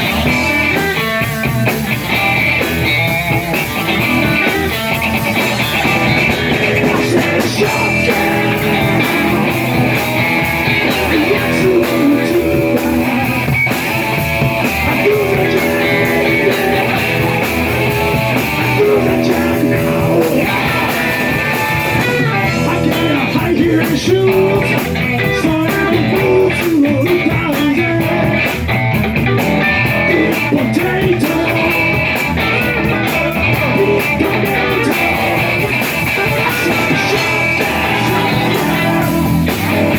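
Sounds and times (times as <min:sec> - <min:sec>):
electric guitar: 0:00.0 - 0:39.9
rock band playing live: 0:00.0 - 0:39.9.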